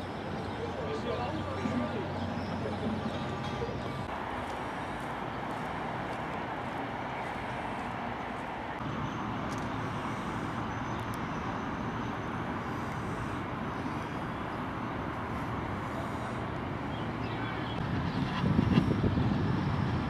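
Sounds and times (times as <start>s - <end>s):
distant road traffic hum: 0.0s - 20.0s.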